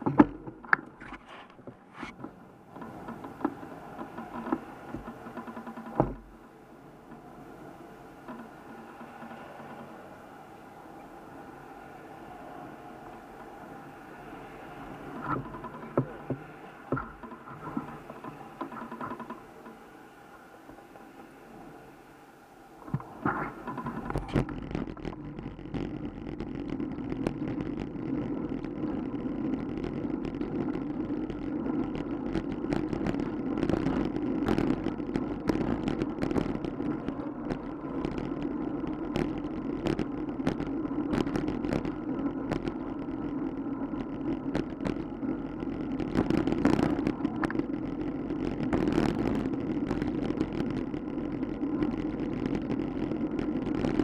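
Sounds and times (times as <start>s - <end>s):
bicycle rattles and knocks: 0.0s - 54.0s
road and wind noise: 0.0s - 54.0s.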